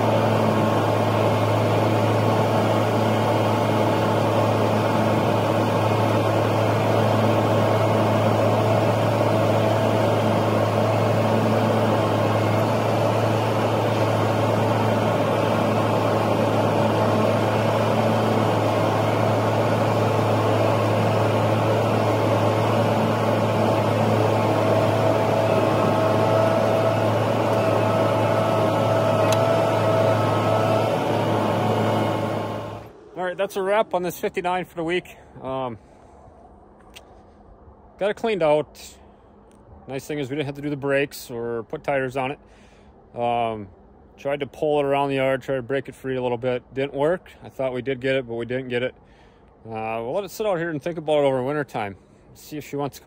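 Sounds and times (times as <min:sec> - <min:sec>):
vehicle engine running steadily: 0:00.0 - 0:38.0, 0:38.8 - 0:53.0
high steady whine: 0:00.0 - 0:53.0.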